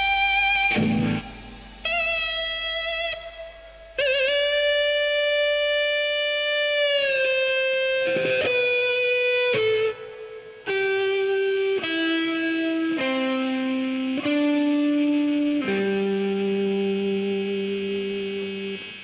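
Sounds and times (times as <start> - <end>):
electric guitar lead notes: 0.0 - 19.0.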